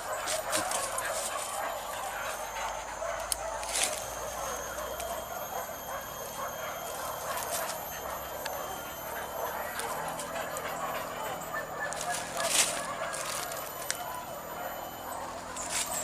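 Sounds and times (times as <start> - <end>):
dogs barking and yelping: 0.0 - 16.0.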